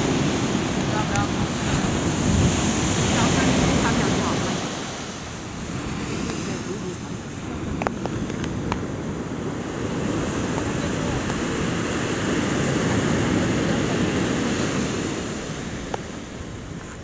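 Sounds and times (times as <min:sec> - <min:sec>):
sea surf washing ashore: 0:00.0 - 0:17.0.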